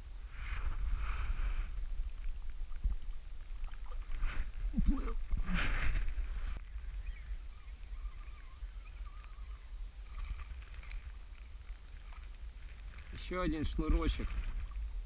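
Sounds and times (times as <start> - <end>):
faint small sounds: 0.0 - 15.0
wind rumbling on microphone: 0.0 - 15.0.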